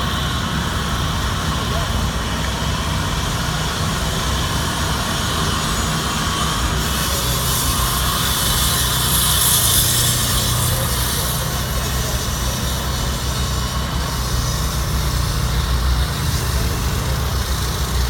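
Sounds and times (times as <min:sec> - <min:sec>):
hiss: 0:03.5 - 0:18.0.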